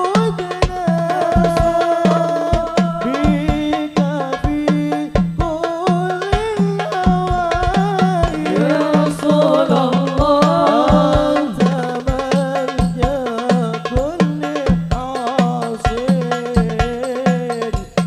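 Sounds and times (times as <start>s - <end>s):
frame drums beating: 0.0s - 18.0s
voices singing devotional song: 0.0s - 18.0s.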